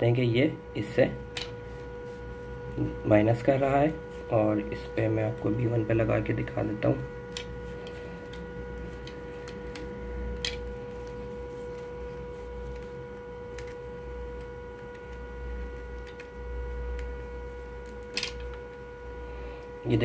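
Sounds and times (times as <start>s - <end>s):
steady electronic whine: 0.0s - 20.0s.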